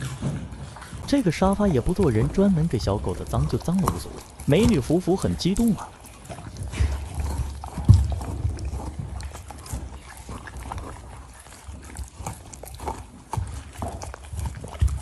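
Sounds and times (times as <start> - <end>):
dogs gnawing and licking: 0.0 - 15.0.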